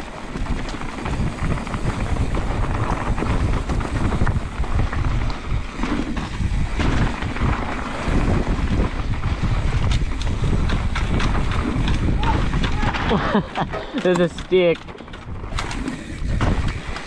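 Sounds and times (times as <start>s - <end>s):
tyres rumbling on dirt: 0.0s - 17.0s
wind buffeting microphone: 0.0s - 17.0s.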